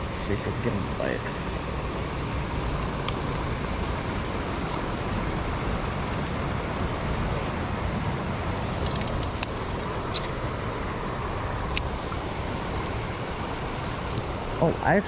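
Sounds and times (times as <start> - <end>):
river water running over rocks: 0.0 - 15.0.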